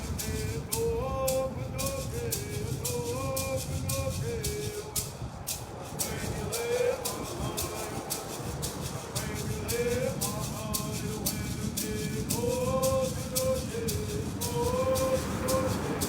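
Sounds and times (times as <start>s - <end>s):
hand rattle shaken: 0.0s - 16.0s.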